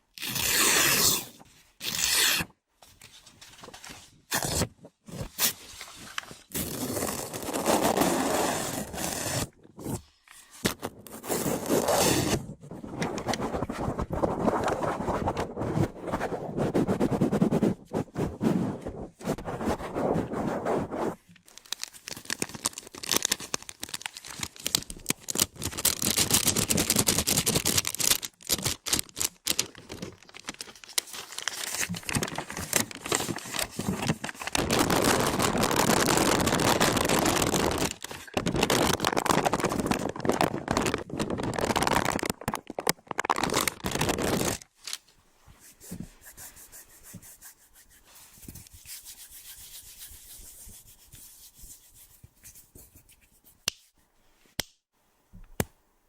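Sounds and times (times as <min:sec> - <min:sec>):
crinkling scratching and rubbing: 0:00.2 - 0:54.0.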